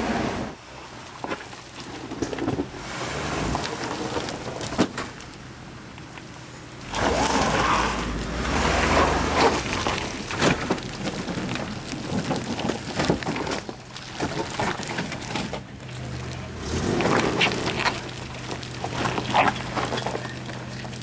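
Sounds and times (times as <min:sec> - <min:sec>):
low engine hum: 0:00.0 - 0:21.0
tyres squelching in mud: 0:01.0 - 0:21.0.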